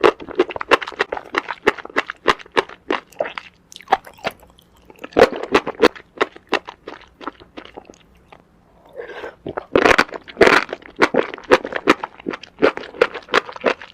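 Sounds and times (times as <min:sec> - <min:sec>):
chewing noodles: 0:00.0 - 0:13.9.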